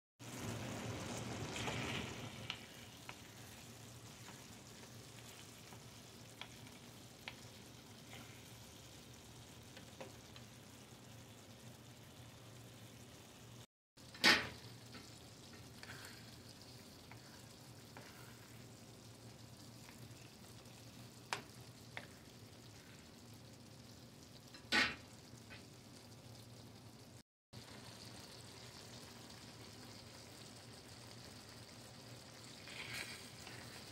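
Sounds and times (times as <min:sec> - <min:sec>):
food sizzling in frying pan: 0:00.2 - 0:33.9.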